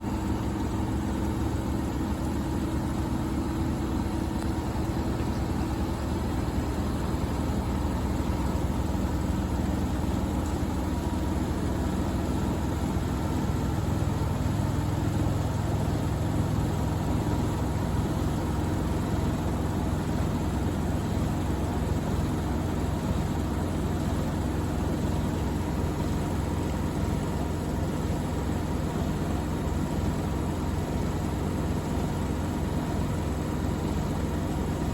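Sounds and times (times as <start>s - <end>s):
washing machines spinning: 0.0s - 34.9s.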